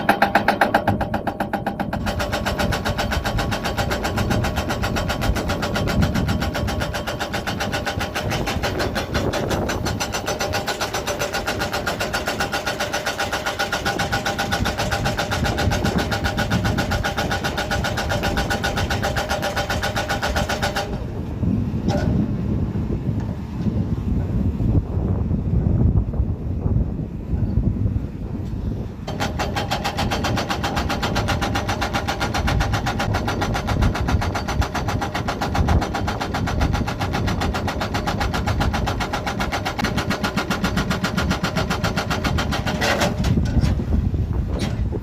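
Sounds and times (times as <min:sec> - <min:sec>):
hydraulic breaker hammering: 0:00.0 - 0:21.2, 0:29.0 - 0:45.0
excavator engine running: 0:00.0 - 0:45.0.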